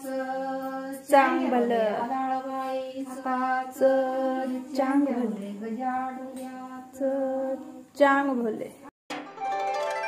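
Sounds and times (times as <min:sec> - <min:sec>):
woman singing unaccompanied: 0:00.0 - 0:08.8.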